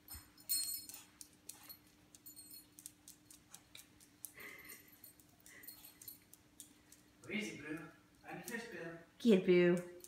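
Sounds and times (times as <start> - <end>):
dog claws ticking on wood floor: 0.1 - 8.7.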